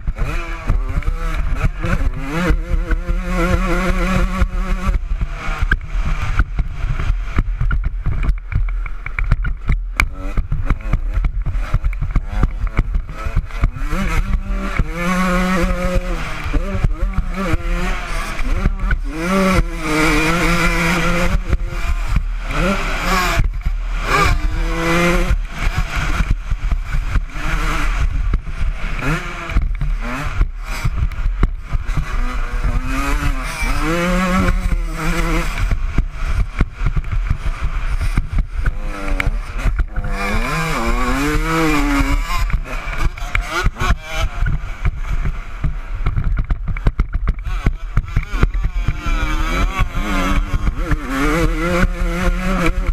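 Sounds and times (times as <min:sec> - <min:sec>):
motocross engine revving: 0:00.0 - 0:52.9
wind rumble on microphone: 0:00.0 - 0:52.9.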